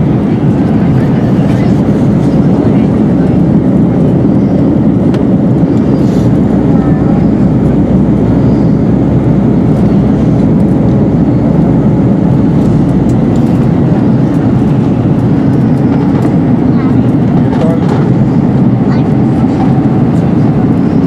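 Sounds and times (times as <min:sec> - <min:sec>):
airplane cabin engine roar: 0:00.0 - 0:21.0
rushing airflow: 0:00.0 - 0:21.0.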